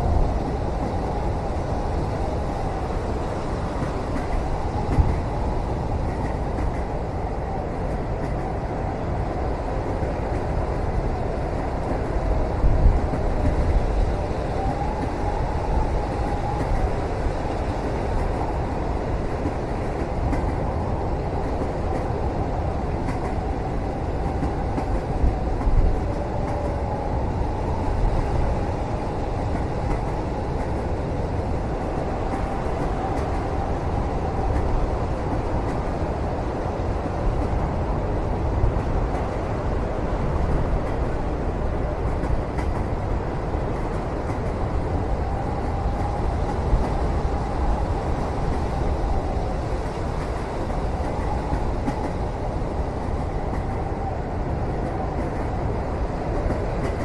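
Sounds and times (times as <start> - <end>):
train rumble from inside cabin: 0.0 - 57.0.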